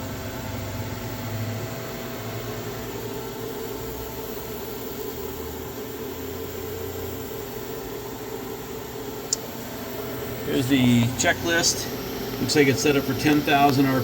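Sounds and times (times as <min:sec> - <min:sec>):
machine shop hum: 0:00.0 - 0:14.0.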